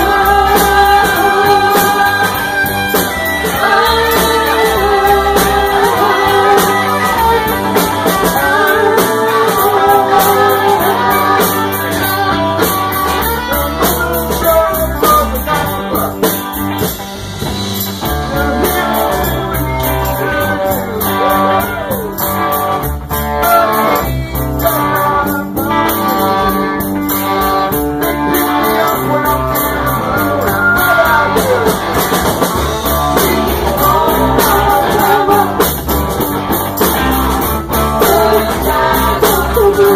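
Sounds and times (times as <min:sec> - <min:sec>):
people singing: 0:00.0 - 0:17.0, 0:17.6 - 0:39.9
drums: 0:00.0 - 0:39.9
electric guitars: 0:00.0 - 0:39.9.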